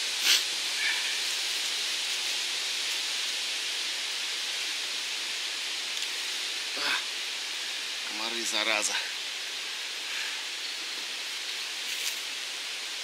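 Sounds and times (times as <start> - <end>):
wind rustling through treetops: 0.0 - 13.0.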